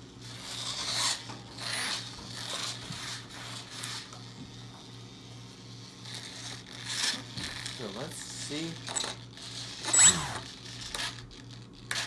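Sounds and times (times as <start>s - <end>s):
small servos buzzing: 0.2s - 12.0s.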